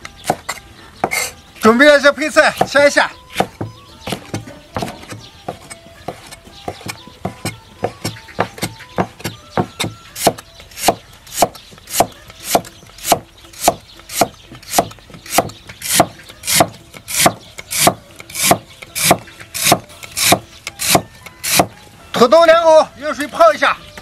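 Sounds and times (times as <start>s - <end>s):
cleaver knocking on wooden block: 2.5s - 21.8s.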